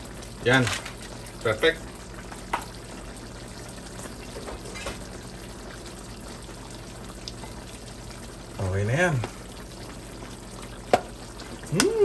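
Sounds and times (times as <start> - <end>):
stew sizzling in a pan: 0.0 - 12.0.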